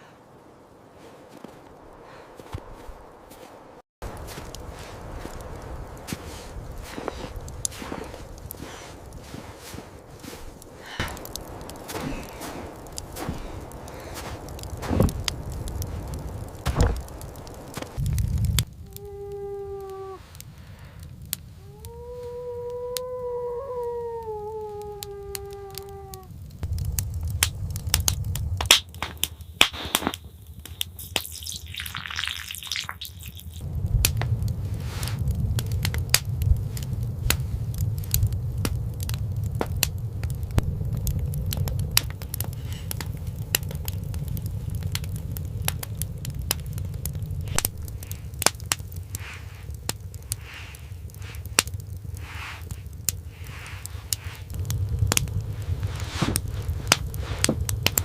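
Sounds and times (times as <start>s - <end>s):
irregular crackling and popping: 0.4s - 58.0s
low steady rumble: 4.0s - 29.6s, 33.4s - 58.0s.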